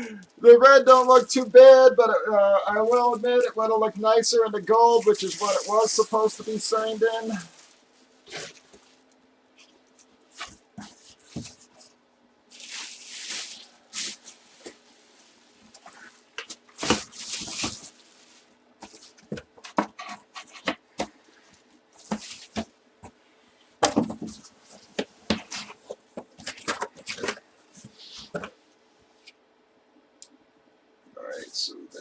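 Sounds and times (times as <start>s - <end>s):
faint steady hum: 0.0s - 32.0s
rustling of cards and plastic: 0.6s - 1.9s, 2.6s - 23.2s, 23.9s - 28.5s.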